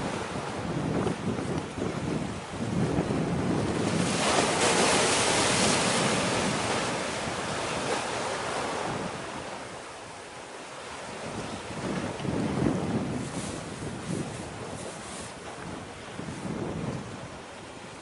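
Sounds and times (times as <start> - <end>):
wind buffeting microphone: 0.0 - 9.9, 10.9 - 18.0
sea wash: 0.0 - 18.0.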